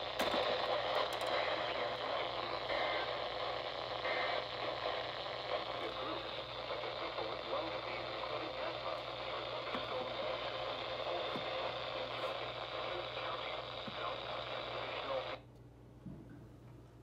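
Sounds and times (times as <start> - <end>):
radio static hiss: 0.0 - 15.5.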